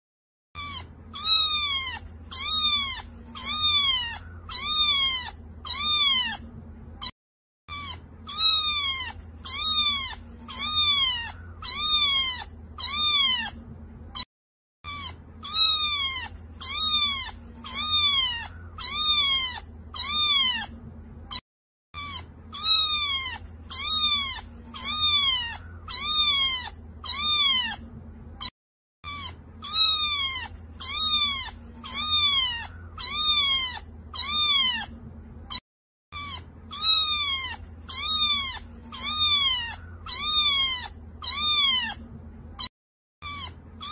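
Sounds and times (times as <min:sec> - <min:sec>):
cat meowing: 0:00.6 - 0:07.1, 0:07.7 - 0:13.6, 0:14.2 - 0:42.0, 0:42.6 - 0:43.9.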